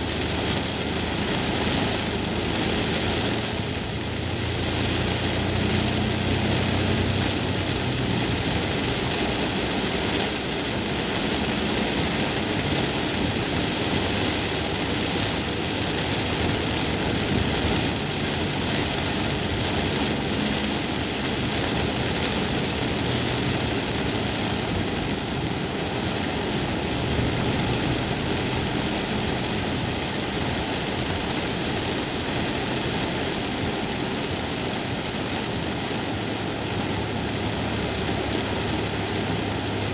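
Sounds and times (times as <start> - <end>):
car engine humming: 0.0 - 39.9
heavy rain drumming on car roof: 0.0 - 39.9.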